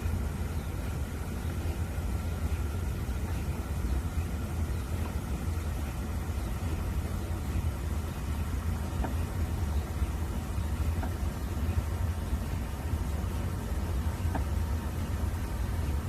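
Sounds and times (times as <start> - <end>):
mri scanner rumble: 0.0 - 16.0.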